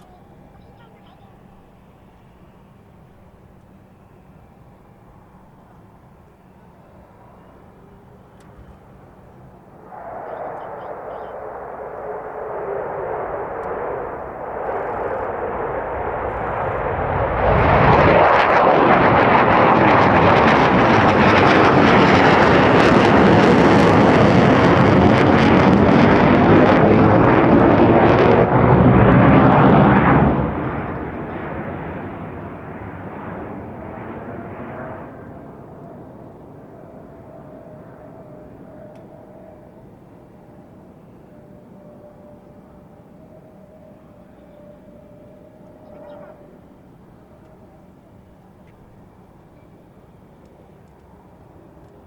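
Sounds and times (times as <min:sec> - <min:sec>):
military jet low pass: 0:00.0 - 0:52.0.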